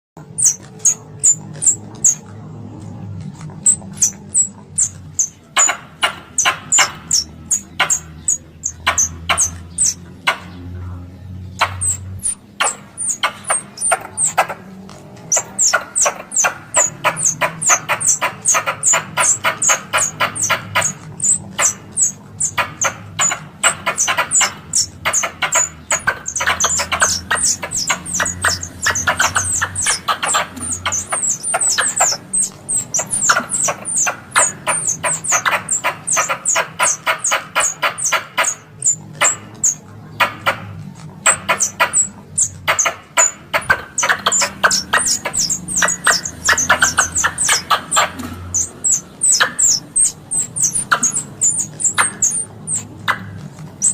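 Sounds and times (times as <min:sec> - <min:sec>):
squirrel call chattering chips: 0:00.2 - 0:02.3, 0:03.6 - 0:10.7, 0:11.5 - 0:53.9.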